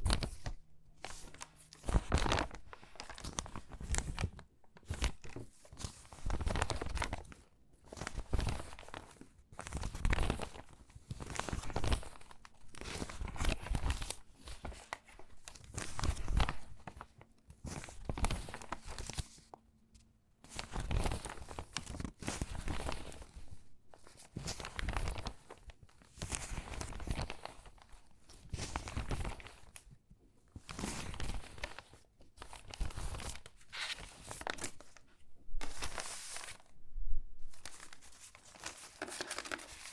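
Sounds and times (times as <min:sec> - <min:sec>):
crinkly magazine pages rustling: 0:00.0 - 0:36.8, 0:37.5 - 0:39.9.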